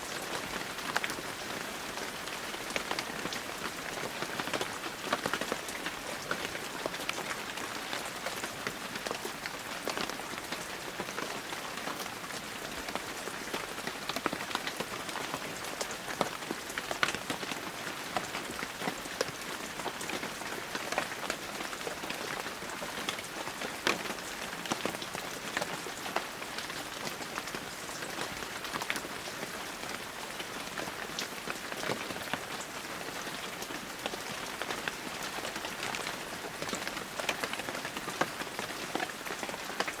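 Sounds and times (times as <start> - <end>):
heavy rain pattering: 0.0 - 40.0.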